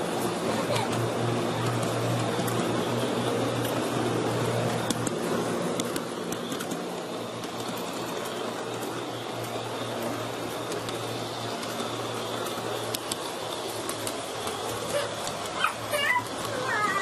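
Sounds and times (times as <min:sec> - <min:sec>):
light track clicks: 0:00.0 - 0:17.0
model train motor hum: 0:00.0 - 0:17.0.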